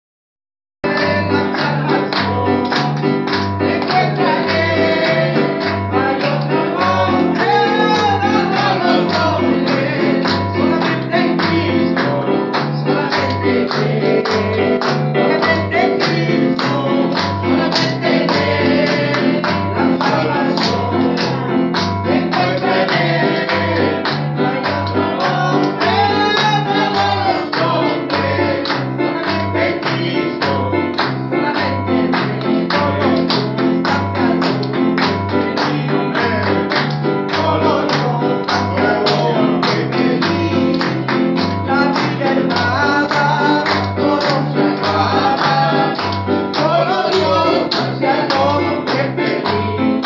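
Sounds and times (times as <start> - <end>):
electronic keyboard: 0.8 - 50.0.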